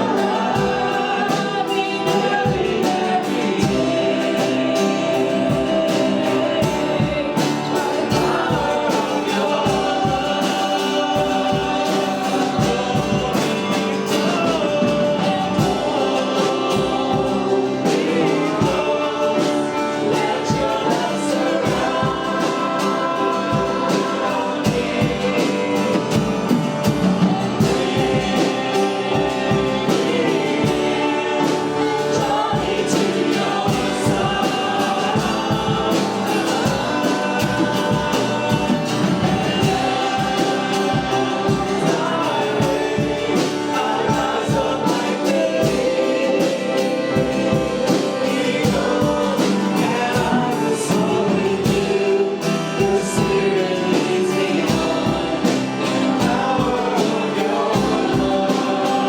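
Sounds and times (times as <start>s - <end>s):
band playing a steady beat: 0.0s - 59.0s
congregation singing worship song: 0.0s - 59.0s.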